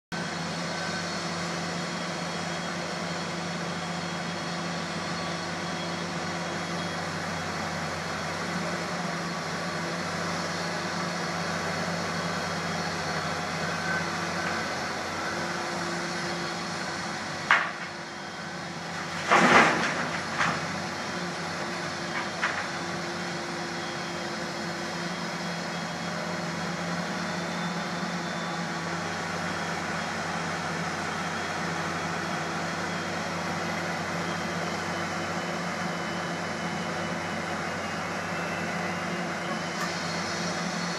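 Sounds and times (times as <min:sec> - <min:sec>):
excavator diesel engine running: 0:00.1 - 0:40.9.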